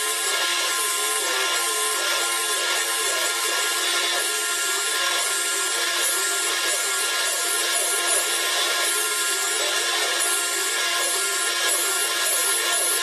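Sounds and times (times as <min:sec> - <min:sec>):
machine tool grinding: 0:00.0 - 0:13.0.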